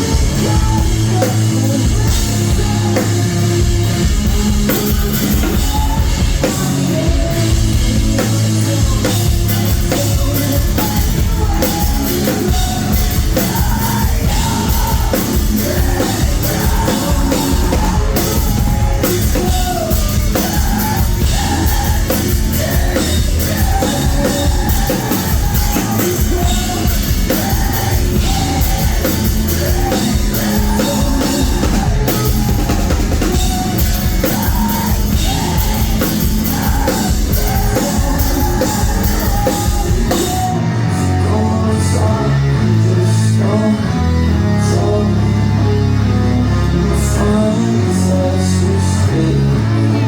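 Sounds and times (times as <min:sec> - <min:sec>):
bass guitar notes: 0:00.0 - 0:50.0
drums: 0:00.0 - 0:50.0
guitars: 0:00.0 - 0:50.0
person singing: 0:00.0 - 0:50.0.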